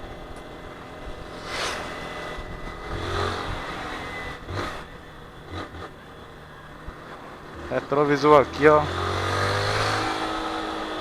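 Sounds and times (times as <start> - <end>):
road and wind noise: 0.0 - 11.0
vehicles rushing past: 0.0 - 11.0.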